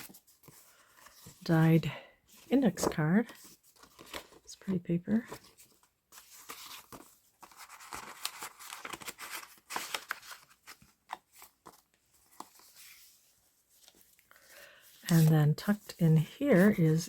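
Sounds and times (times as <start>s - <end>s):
paper rustling and crinkling: 0.0s - 1.4s, 2.3s - 17.0s.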